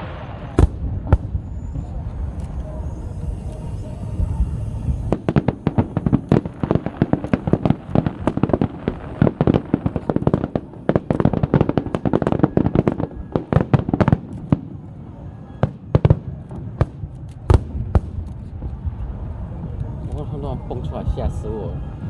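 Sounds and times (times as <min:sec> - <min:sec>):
fireworks bangs: 0:00.0 - 0:22.0
low rumble: 0:00.0 - 0:22.0.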